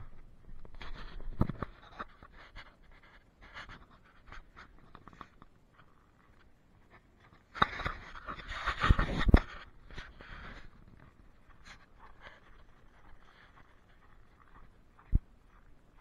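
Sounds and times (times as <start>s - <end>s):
scratching and rustling: 0.0s - 16.0s
footsteps crunching on snow: 0.6s - 16.0s.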